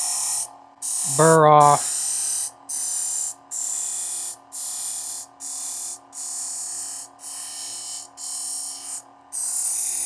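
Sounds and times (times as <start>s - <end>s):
knife hissing on honing wheel: 0.0s - 10.0s.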